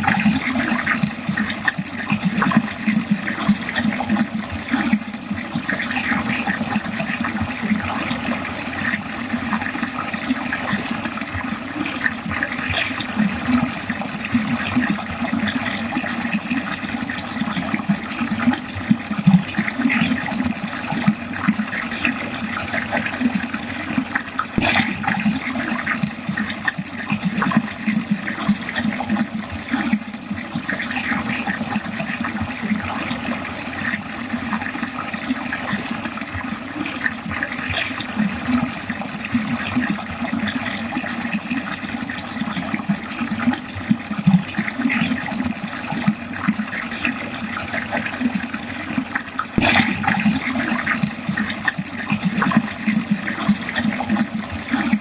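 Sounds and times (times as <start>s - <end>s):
water running down a drain: 0.0s - 55.0s.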